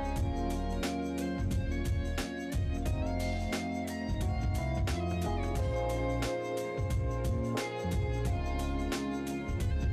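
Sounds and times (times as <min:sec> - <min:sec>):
instrumental music with a beat: 0:00.0 - 0:09.9.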